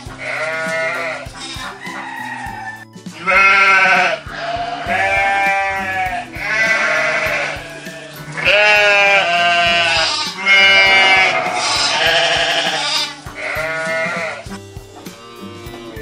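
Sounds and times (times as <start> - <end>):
sheep bleating: 0.1 - 14.6.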